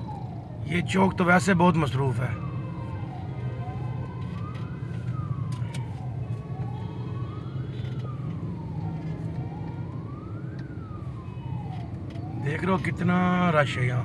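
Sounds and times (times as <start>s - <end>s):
emergency siren wailing: 0.0s - 14.0s
traffic engines rumbling: 0.0s - 14.0s.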